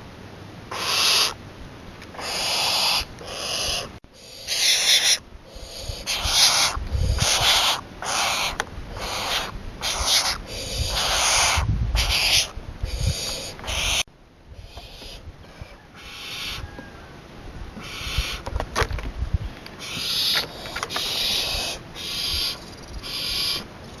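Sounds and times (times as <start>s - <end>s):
owl hissing: 0.7s - 1.4s, 2.1s - 16.8s, 17.8s - 18.5s, 19.8s - 23.7s.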